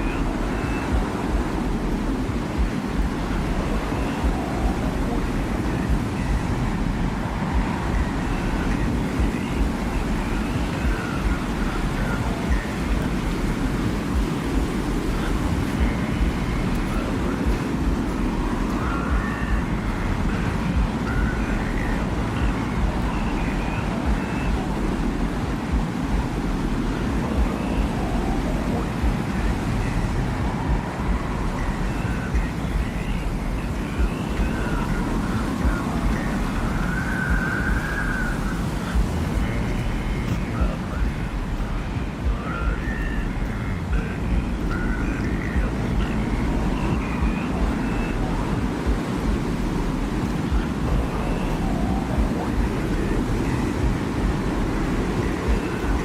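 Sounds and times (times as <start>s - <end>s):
deep wind rumble: 0.0s - 56.0s
faint wavering whistles: 0.0s - 56.0s.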